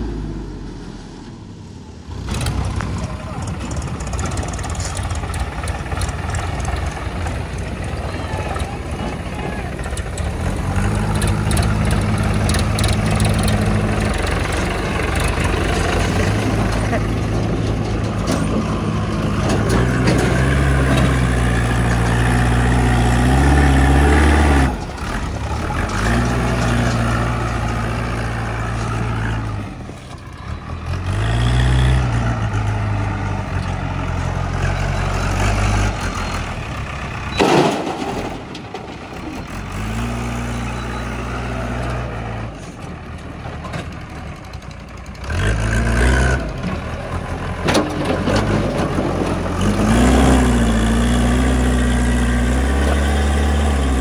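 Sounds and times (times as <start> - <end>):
diesel engines revving: 0.0 - 54.0.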